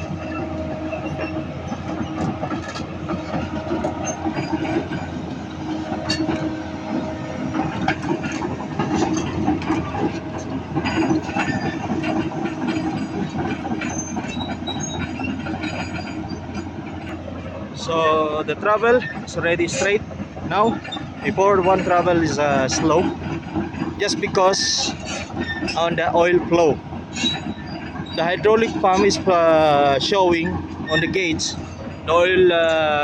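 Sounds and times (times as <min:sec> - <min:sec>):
diesel engine under load: 0:00.0 - 0:33.0
steel tracks clanking: 0:00.0 - 0:33.0.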